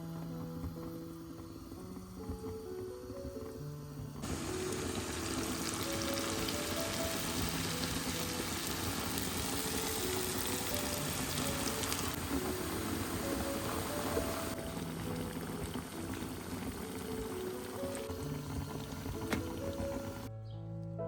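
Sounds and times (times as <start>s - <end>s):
cooking hiss: 0.0s - 20.3s
soft background music: 0.0s - 21.0s.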